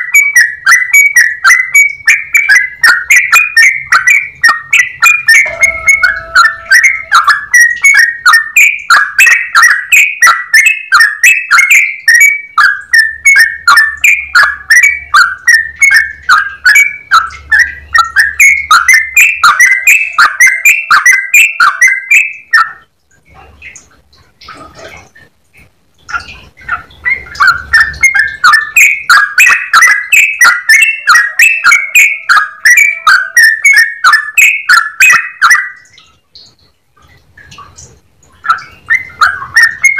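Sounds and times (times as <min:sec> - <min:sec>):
bird singing bubbly whistles: 0:00.0 - 0:22.8, 0:26.2 - 0:36.6, 0:38.4 - 0:39.9.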